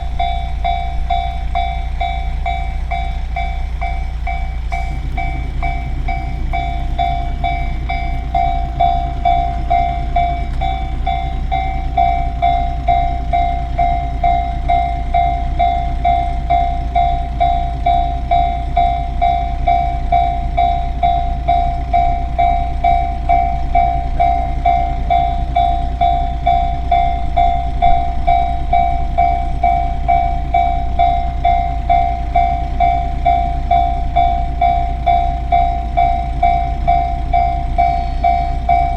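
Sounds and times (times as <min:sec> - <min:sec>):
level-crossing alarm ringing: 0:00.0 - 0:38.9
steady low rumble: 0:00.0 - 0:38.9.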